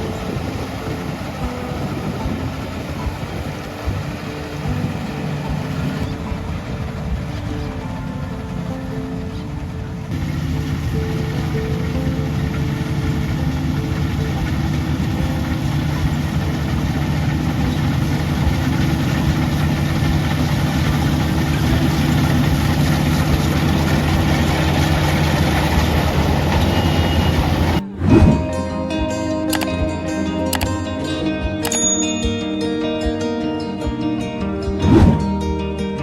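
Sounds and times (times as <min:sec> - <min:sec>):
harvesting machine engine drone: 0:00.0 - 0:35.4.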